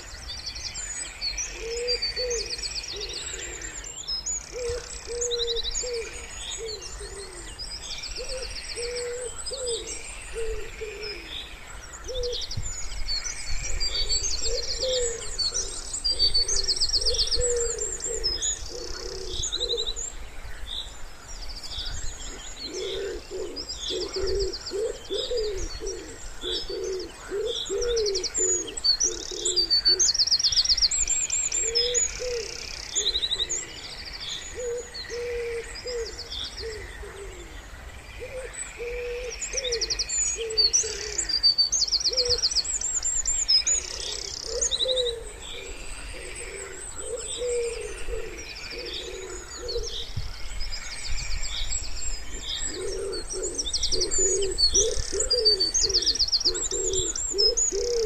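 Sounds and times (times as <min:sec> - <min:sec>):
songbirds chirping and trilling: 0:00.0 - 0:58.0
wood pigeons cooing: 0:01.5 - 0:03.9, 0:04.5 - 0:07.6, 0:08.2 - 0:12.5, 0:13.7 - 0:20.1, 0:22.0 - 0:30.2, 0:31.5 - 0:37.6, 0:38.2 - 0:41.4, 0:42.1 - 0:42.5, 0:43.6 - 0:50.2, 0:52.3 - 0:58.0.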